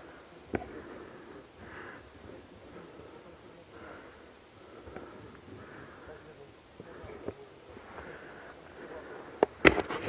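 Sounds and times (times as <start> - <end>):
breathing close to microphone: 0.0 - 9.6.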